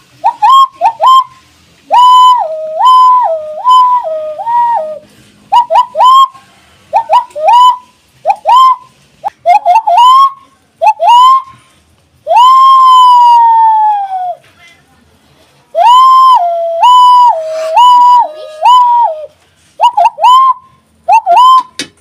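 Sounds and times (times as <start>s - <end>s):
hand whistle imitating sirens: 0.2s - 11.6s, 12.2s - 14.4s, 15.8s - 21.9s.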